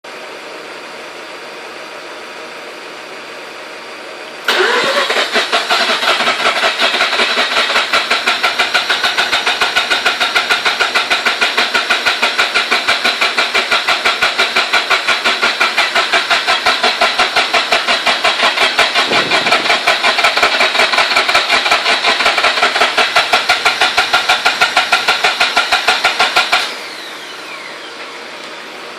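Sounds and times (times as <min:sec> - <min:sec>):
engine cranking by starter motor: 0:04.5 - 0:28.2.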